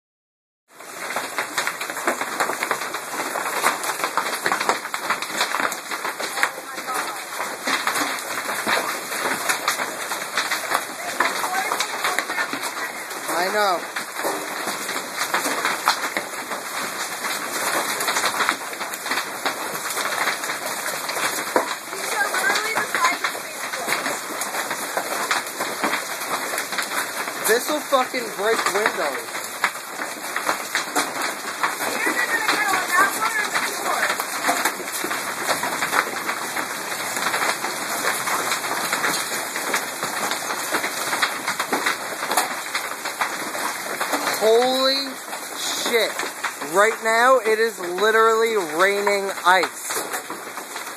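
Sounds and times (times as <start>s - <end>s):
hailstones clattering on hard surfaces: 0.7s - 50.9s
rain hissing: 0.7s - 50.9s.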